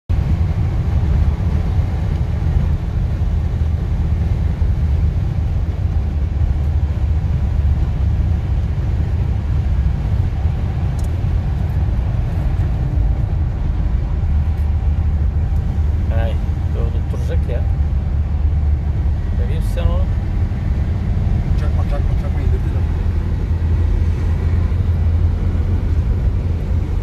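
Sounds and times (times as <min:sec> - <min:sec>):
road noise inside vehicle: 0:00.1 - 0:27.0
vehicle engine rumble: 0:00.1 - 0:27.0.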